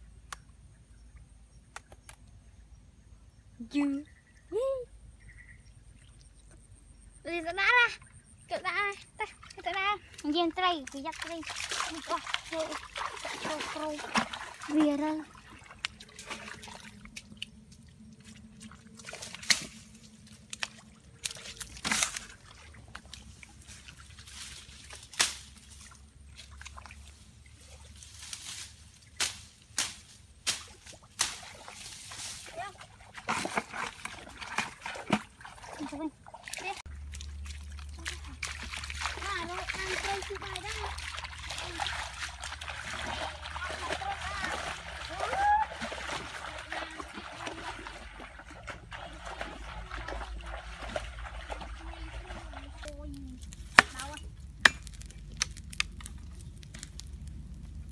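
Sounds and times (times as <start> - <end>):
bare feet splashing in muddy water: 7.6 - 57.9.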